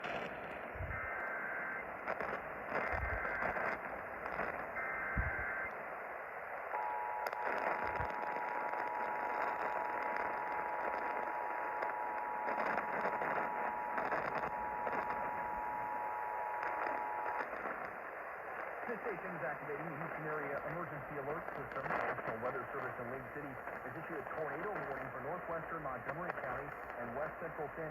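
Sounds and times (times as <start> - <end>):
radio static hiss: 0.0 - 27.9.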